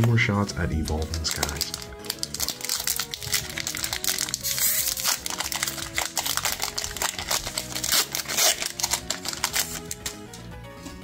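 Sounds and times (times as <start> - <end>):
foil wrapper crinkling as torn: 1.0 - 10.3.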